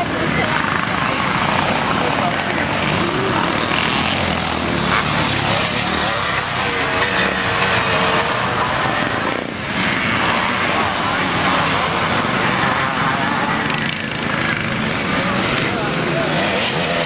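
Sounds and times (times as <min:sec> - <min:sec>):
motocross motorcycle engines revving: 0:00.0 - 0:17.0.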